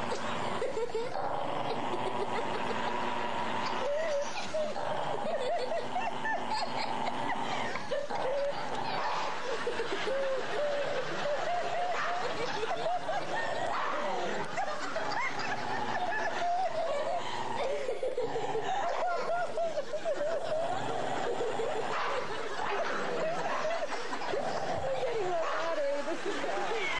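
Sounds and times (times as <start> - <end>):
dog growling and snarling: 0.0 - 26.9
stifled snickering laughter: 0.0 - 26.9.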